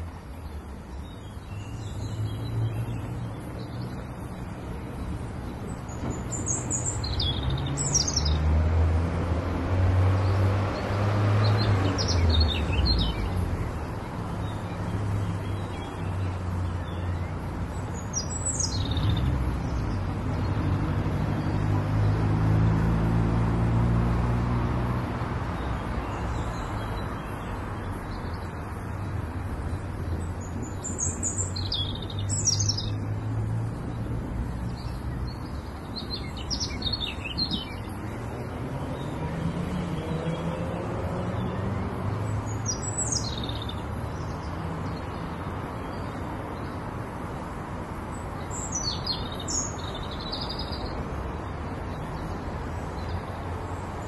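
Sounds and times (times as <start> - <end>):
cars and trucks passing: 0.0 - 54.0.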